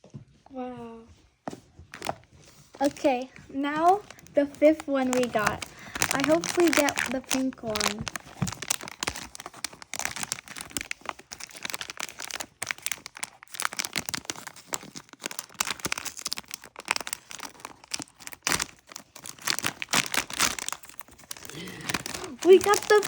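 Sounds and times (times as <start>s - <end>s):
packaging crinkling and tearing: 1.9s - 23.0s.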